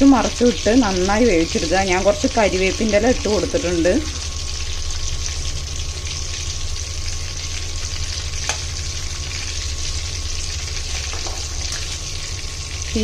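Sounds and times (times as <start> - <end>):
chicken sizzling in hot oil: 0.0 - 13.0
low steady hum: 0.0 - 13.0.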